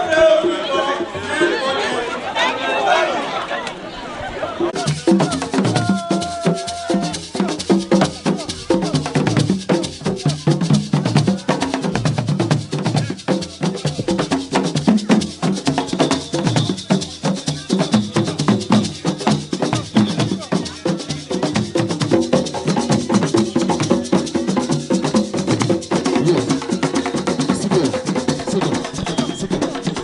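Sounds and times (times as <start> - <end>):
fast drumming: 4.7 - 30.0
shaker rattling: 4.8 - 30.0.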